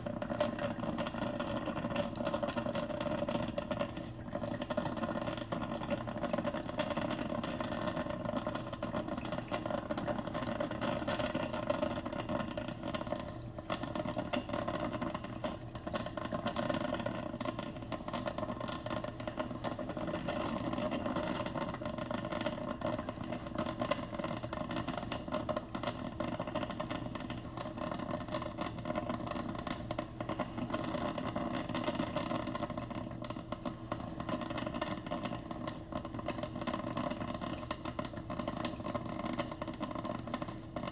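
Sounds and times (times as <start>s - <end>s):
drip coffee maker brewing: 0.0s - 40.9s.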